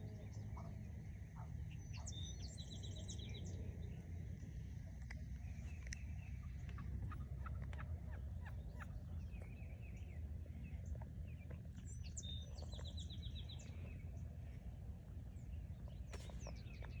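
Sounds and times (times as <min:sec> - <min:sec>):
low background rumble: 0:00.0 - 0:17.0
small songbirds chirping: 0:00.0 - 0:17.0.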